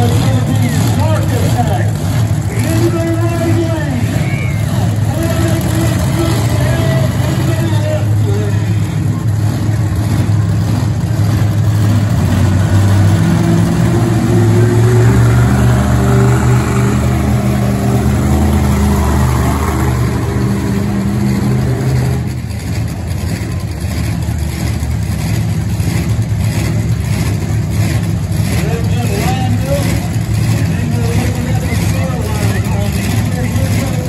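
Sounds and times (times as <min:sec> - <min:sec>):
monster truck engine running: 0:00.0 - 0:34.0.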